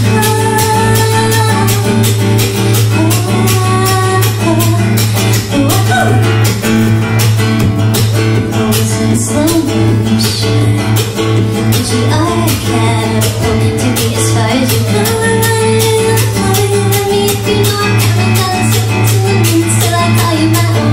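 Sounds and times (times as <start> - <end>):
woman singing: 0.0 - 6.5, 8.4 - 20.9
acoustic guitar strumming: 0.0 - 20.9.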